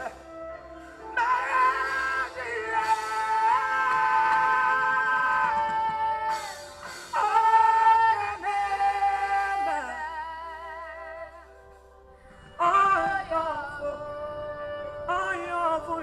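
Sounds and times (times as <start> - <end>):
person singing long held notes: 0.0 - 11.6, 12.4 - 16.0
music: 0.0 - 16.0.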